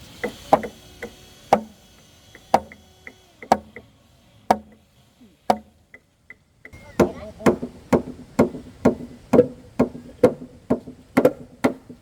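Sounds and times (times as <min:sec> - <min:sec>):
hand tool striking wood: 0:00.0 - 0:03.9, 0:04.5 - 0:04.9, 0:05.5 - 0:12.0.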